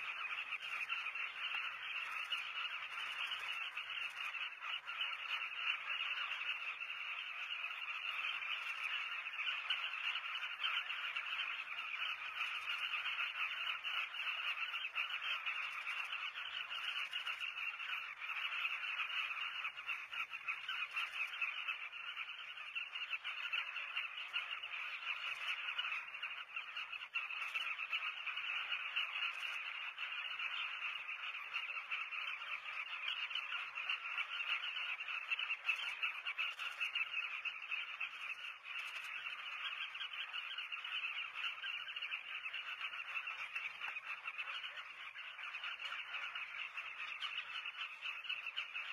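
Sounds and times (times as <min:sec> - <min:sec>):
bird colony chattering: 0:00.0 - 0:48.9.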